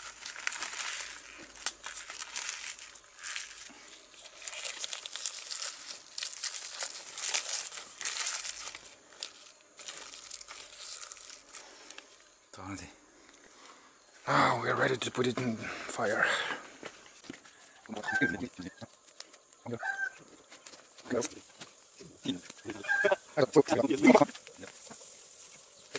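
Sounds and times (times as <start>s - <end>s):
leaves crinkling and rustling: 0.0s - 12.3s, 17.1s - 25.9s
leaves crackling: 0.0s - 12.8s, 16.1s - 25.9s.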